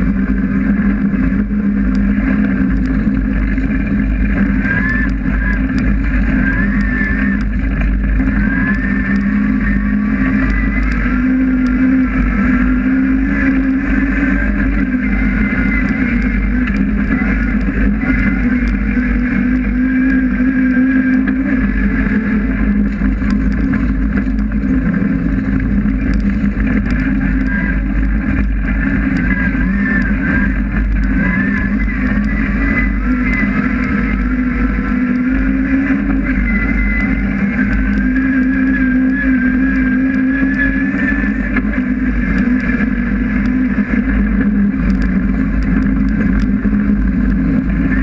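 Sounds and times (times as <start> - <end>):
car engine revving hard: 0.0 - 48.0.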